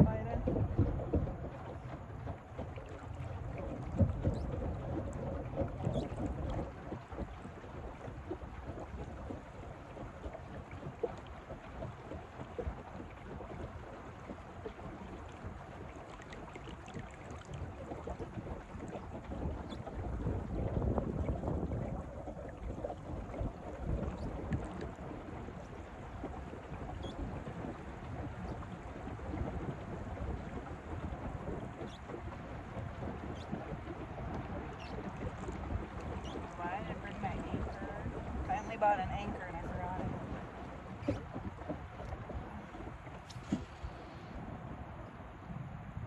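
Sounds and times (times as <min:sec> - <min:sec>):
water lapping against boat hull: 0:00.0 - 0:46.0
wind buffeting microphone: 0:00.0 - 0:46.0.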